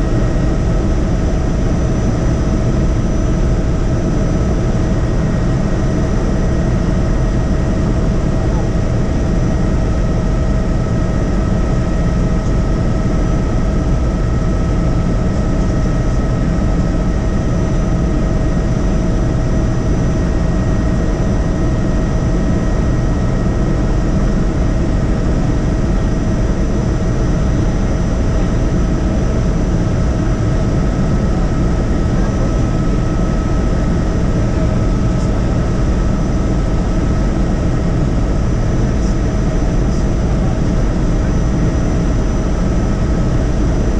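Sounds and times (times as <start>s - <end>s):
helicopter rotor and engine rumble: 0.0s - 43.9s.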